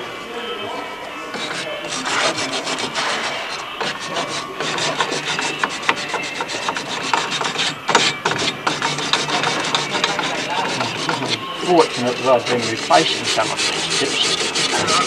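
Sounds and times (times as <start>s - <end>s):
abrasive paper scraping metal: 0.8s - 15.0s.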